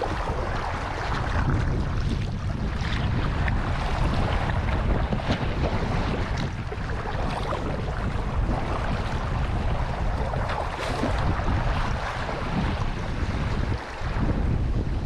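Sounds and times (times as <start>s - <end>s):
water lapping against hull: 0.0s - 15.0s
wind rumble on microphone: 0.0s - 15.0s.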